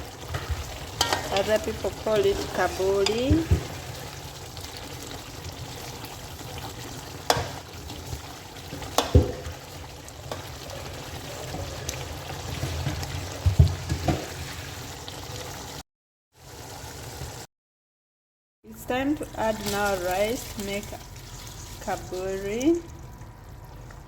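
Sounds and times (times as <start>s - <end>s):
sauce bubbling in a pot: 0.0s - 15.8s, 20.3s - 24.0s.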